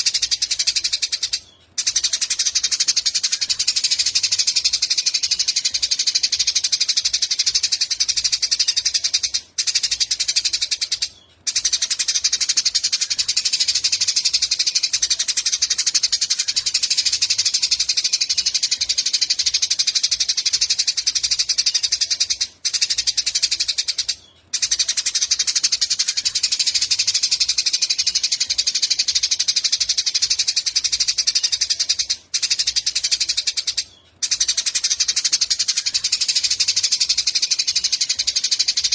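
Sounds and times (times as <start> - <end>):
sparrows chirping chatter: 0.0 - 38.9.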